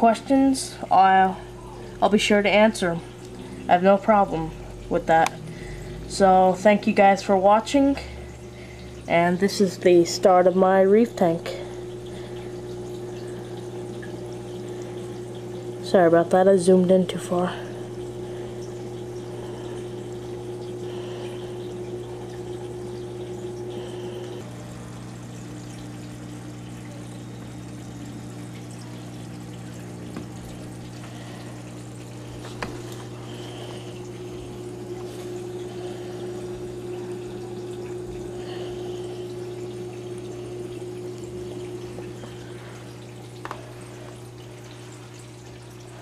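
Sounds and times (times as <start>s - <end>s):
aquarium pump humming: 0.0s - 46.0s
water flowing and trickling: 0.0s - 46.0s.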